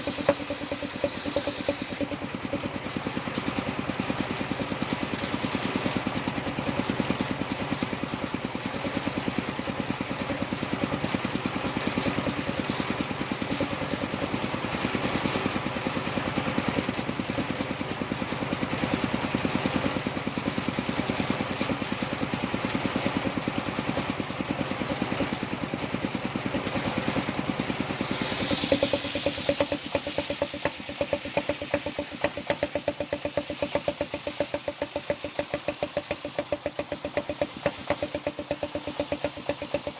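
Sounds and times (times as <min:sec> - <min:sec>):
engine running with fast beat: 0:00.0 - 0:39.9
hiss: 0:00.0 - 0:39.9.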